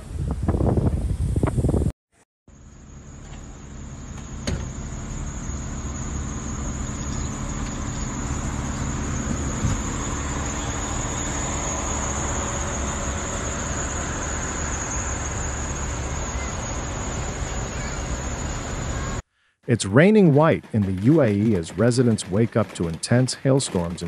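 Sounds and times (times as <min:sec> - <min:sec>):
steady outdoor rushing noise: 0:03.5 - 0:24.0.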